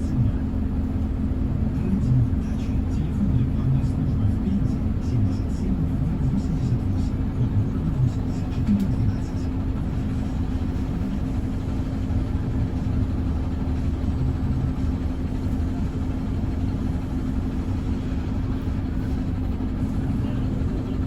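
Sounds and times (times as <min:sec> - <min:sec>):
bus engine rumble from inside: 0:00.0 - 0:21.0.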